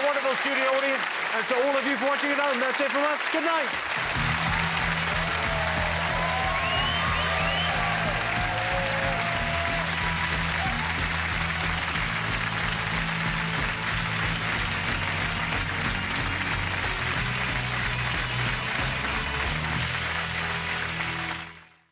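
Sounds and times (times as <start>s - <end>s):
audience applauding: 0.0s - 21.9s
closing theme music: 3.6s - 21.8s.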